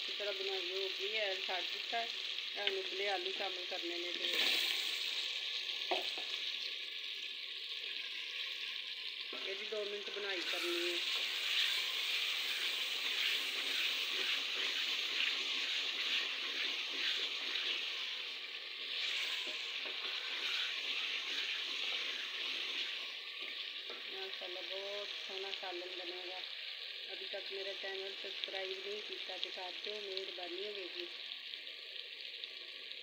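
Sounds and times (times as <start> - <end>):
food frying in oil: 0.0 - 33.0.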